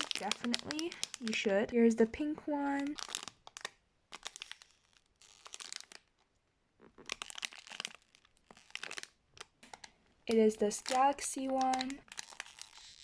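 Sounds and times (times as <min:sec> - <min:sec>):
toy wrapping crinkling: 0:00.0 - 0:13.0.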